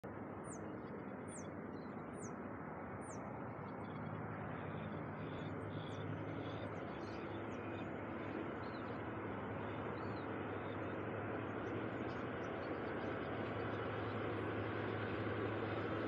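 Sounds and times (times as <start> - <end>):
low rumble with engine hum: 0.0 - 16.0.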